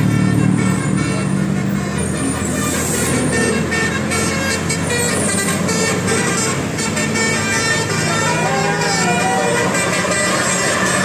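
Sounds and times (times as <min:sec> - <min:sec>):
bus engine running: 0:00.0 - 0:11.0
melodic bus air horn: 0:00.0 - 0:11.0.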